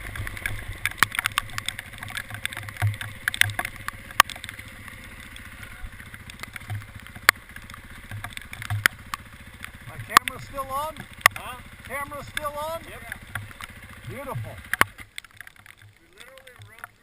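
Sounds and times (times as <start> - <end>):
low hum: 0.0 - 17.0
sharp taps and clicks: 0.0 - 17.0.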